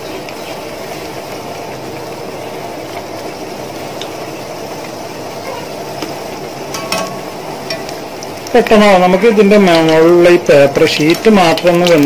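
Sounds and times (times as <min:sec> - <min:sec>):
faint oil crackles: 0:00.0 - 0:12.0
food deep-frying in oil: 0:00.0 - 0:12.0.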